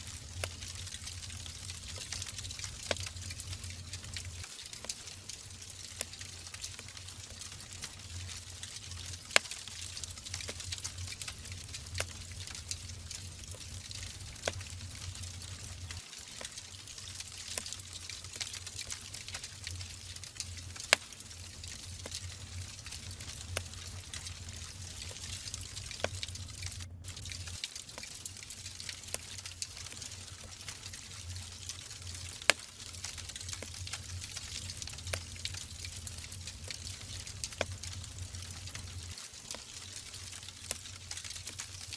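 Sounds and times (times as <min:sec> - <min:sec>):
soft hiss and low rumble: 0:00.0 - 0:41.9
wood fire crackling and popping: 0:00.0 - 0:41.9.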